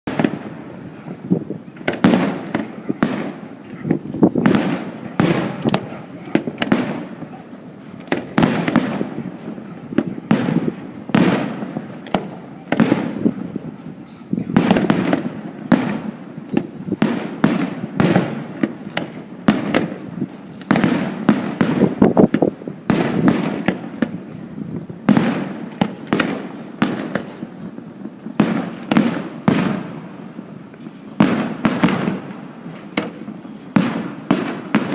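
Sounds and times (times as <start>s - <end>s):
fireworks sharp bangs: 0.1s - 34.9s.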